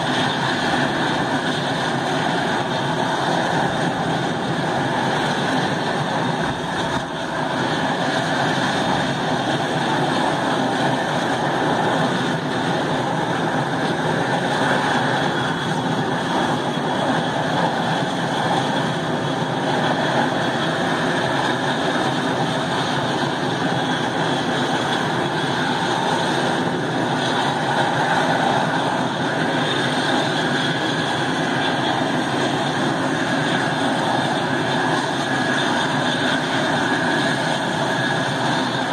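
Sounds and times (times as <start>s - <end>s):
propeller plane engine running: 0.0s - 38.9s.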